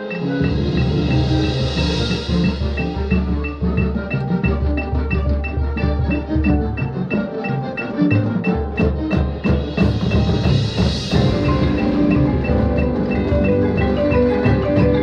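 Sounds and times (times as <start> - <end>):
mallet percussion: 0.0 - 15.0
marching band playing: 0.0 - 15.0
steady high tick: 0.0 - 15.0.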